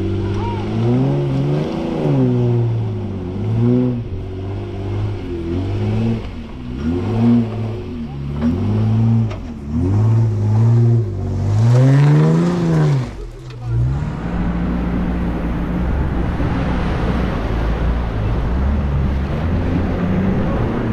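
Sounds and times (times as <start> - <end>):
engine revving: 0.0 - 20.9.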